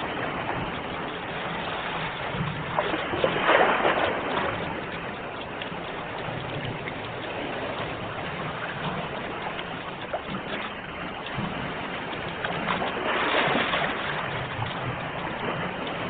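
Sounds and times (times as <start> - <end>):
sea waves washing in: 0.0 - 16.0
wave breaking: 0.0 - 16.0.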